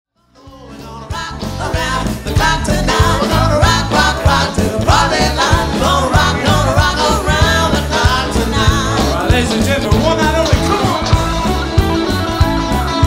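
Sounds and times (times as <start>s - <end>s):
drums: 0.1s - 13.0s
lead vocalist singing: 0.2s - 13.0s
rock and roll band playing: 0.2s - 13.0s.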